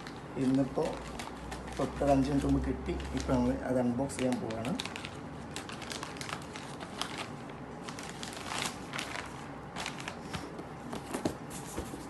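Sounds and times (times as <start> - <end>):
package being handled and opened: 0.0 - 12.0.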